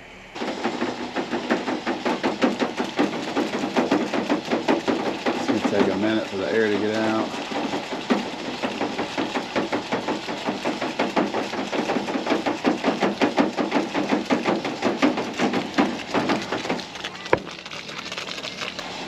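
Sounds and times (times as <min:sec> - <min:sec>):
electric water pump pulsing: 0:00.0 - 0:19.0.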